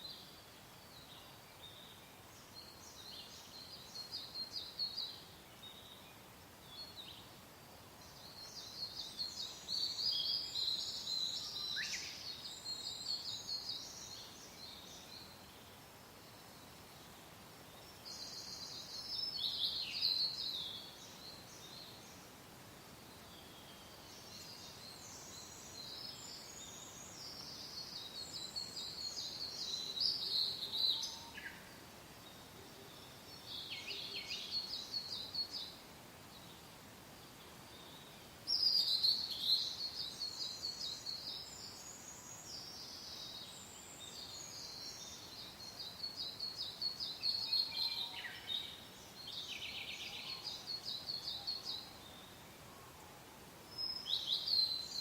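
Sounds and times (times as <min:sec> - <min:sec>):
soft wind hiss: 0:00.0 - 0:55.0
songbirds chirping trills: 0:00.0 - 0:55.0.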